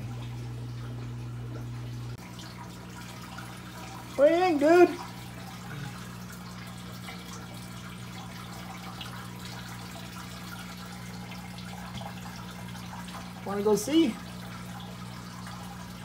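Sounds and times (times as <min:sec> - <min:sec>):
faint trickle of running water: 0:00.0 - 0:16.0
low electrical hum: 0:00.0 - 0:16.0.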